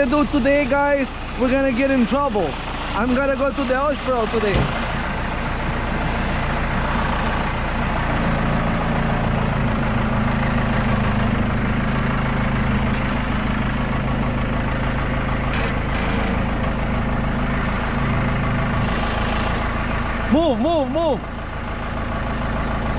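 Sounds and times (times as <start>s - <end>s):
heavy diesel engine droning: 0.0s - 22.9s.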